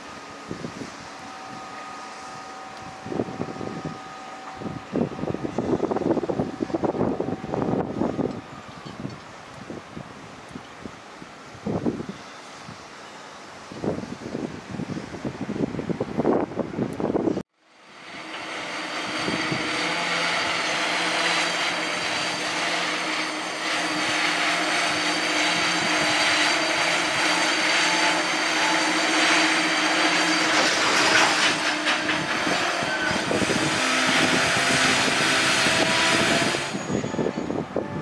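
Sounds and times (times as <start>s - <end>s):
crane engine hum: 0.0s - 16.1s, 17.2s - 38.0s
dense mechanical noise: 0.0s - 38.0s.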